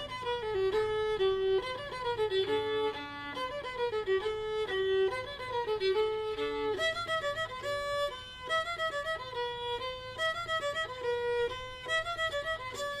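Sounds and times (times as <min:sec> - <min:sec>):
fiddle melody: 0:00.0 - 0:13.0.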